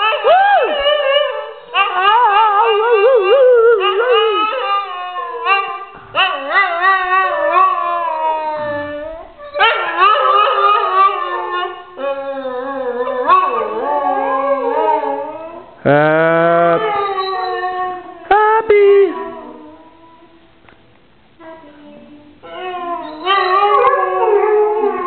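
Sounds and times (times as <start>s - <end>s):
dog howling: 0.0s - 15.8s, 16.4s - 18.2s, 21.4s - 25.0s.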